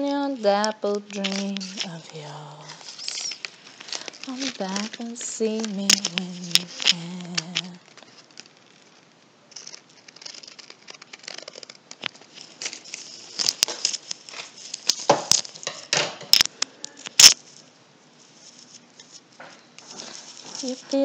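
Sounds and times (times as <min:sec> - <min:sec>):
paper crinkling and rustling: 0:00.4 - 0:15.7, 0:17.1 - 0:21.0.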